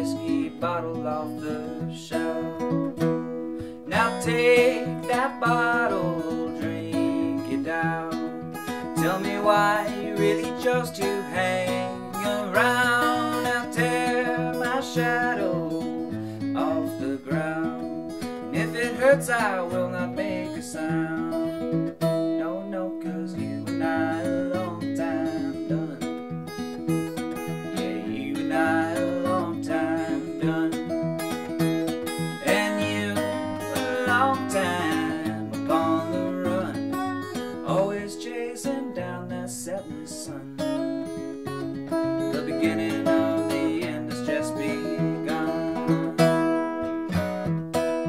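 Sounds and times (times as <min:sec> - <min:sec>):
acoustic guitar strumming: 0:00.0 - 0:48.0.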